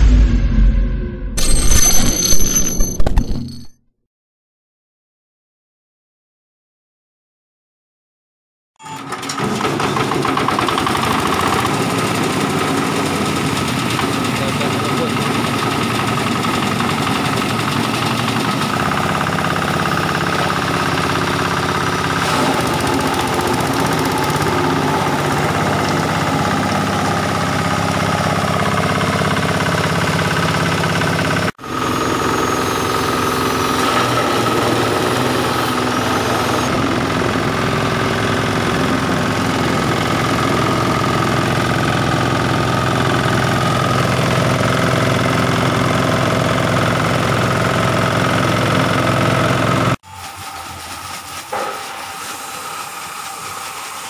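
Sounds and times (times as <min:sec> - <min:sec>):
grass chopper engine running: 0:08.9 - 0:54.0.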